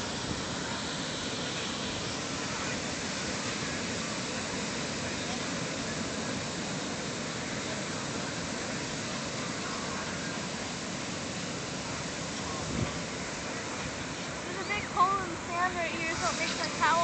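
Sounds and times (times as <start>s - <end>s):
ocean surf breaking: 0.0s - 17.0s
faint voices of people: 0.3s - 17.0s.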